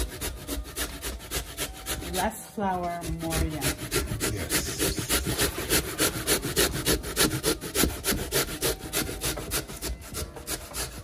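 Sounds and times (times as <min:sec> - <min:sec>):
grating on a metal grater: 0:00.0 - 0:11.0.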